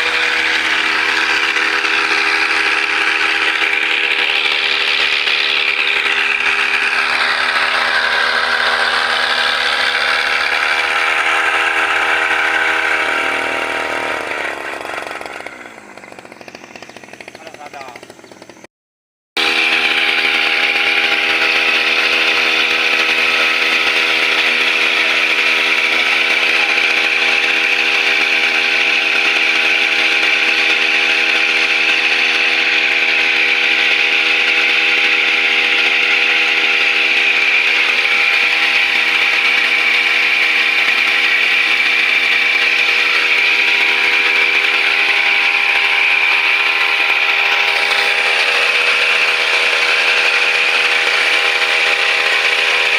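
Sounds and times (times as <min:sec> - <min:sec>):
brush cutter engine running: 0:00.0 - 0:18.7, 0:19.4 - 0:52.9.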